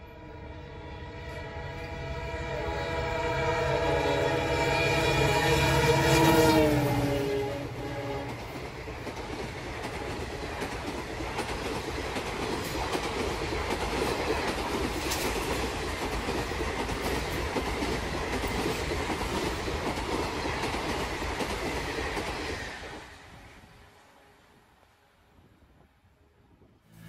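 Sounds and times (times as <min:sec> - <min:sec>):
train rushing past: 0:00.0 - 0:24.8.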